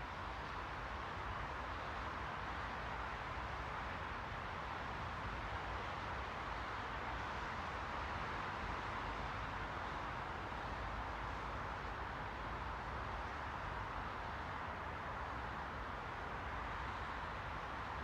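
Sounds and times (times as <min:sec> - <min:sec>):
white noise hiss: 0:00.0 - 0:18.0.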